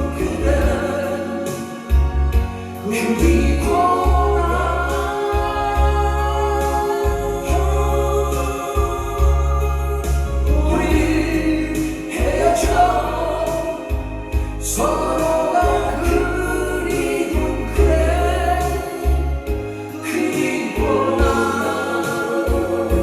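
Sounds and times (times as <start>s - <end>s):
person singing: 0.0s - 23.0s
pop band accompaniment: 0.0s - 23.0s.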